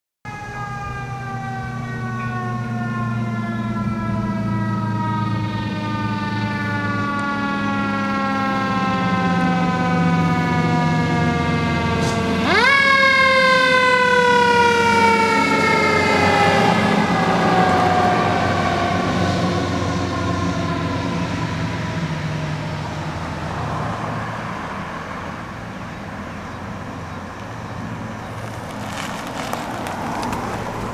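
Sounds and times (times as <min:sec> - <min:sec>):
fire engine rumbling: 0:00.3 - 0:30.9.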